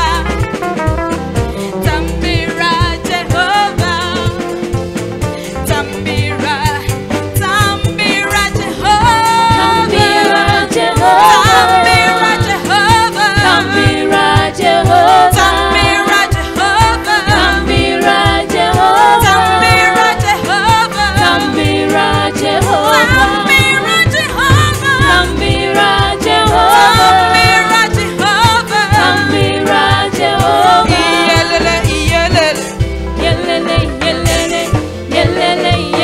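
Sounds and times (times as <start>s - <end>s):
woman singing gospel song: 0.0s - 0.3s, 1.8s - 4.5s, 5.6s - 36.0s
instrumental accompaniment: 0.0s - 36.0s.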